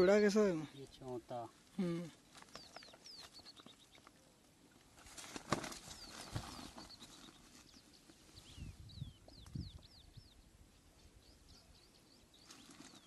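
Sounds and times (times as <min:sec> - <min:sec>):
bird chirping: 0:00.0 - 0:04.4, 0:05.7 - 0:13.0.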